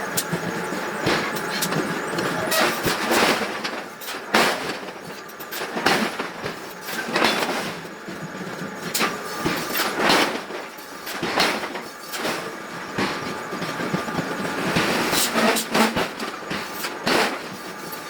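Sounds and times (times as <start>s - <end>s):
machinery noise: 0.0s - 18.0s.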